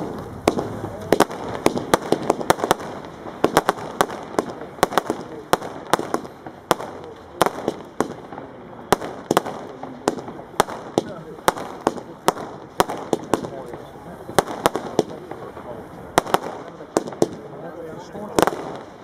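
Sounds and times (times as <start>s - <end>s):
firework cake firing sharp bangs: 0.0s - 19.0s.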